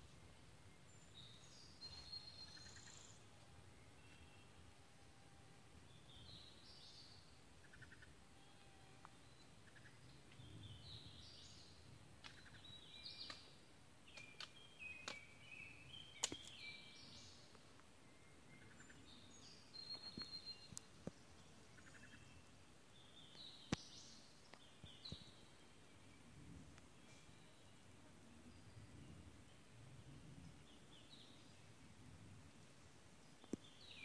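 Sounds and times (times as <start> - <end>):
faint birdsong: 0.0 - 34.0.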